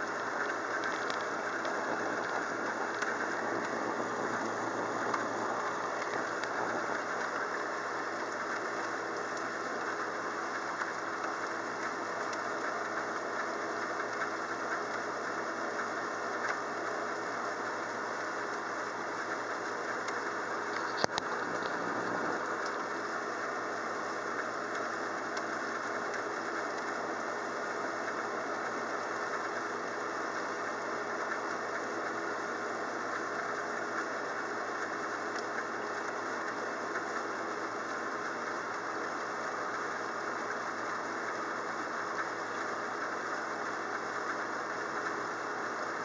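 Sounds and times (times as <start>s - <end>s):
steady rain hiss: 0.0s - 46.0s.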